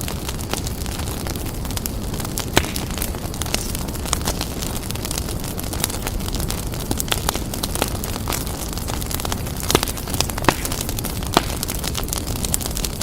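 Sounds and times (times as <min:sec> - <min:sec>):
fire crackling and popping: 0:00.0 - 0:13.0
fire flames rumbling: 0:00.0 - 0:13.0.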